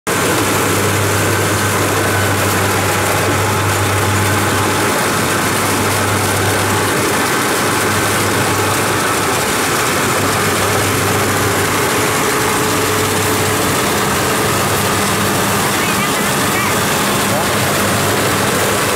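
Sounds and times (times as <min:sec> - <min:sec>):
combine harvester diesel engine: 0:00.1 - 0:18.9.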